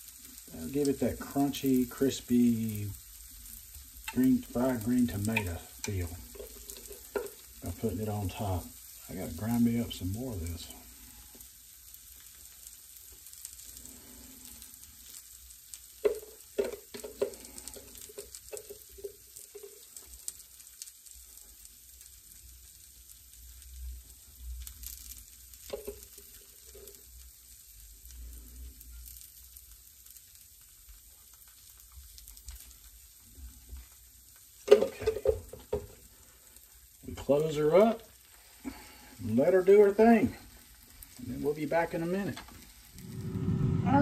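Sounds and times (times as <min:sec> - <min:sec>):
batter sizzling in waffle makers: 0:00.0 - 0:43.0.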